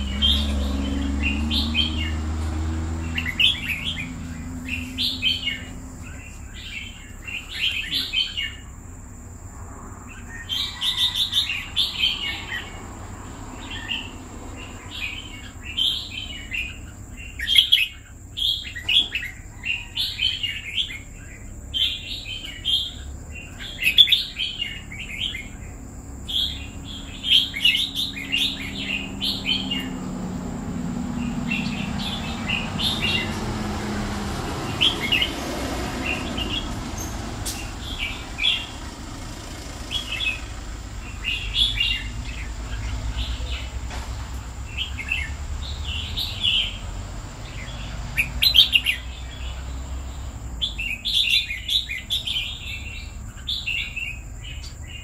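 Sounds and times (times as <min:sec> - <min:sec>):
bird singing chirpy phrases: 0:00.0 - 0:09.4, 0:10.1 - 0:55.0.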